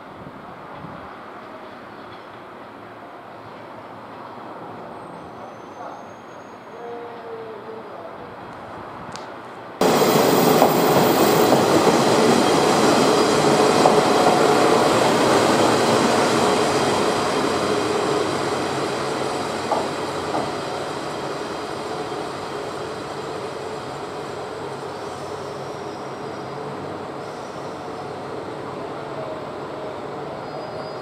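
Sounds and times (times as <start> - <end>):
diesel train engine and wheels: 0.0 - 31.0.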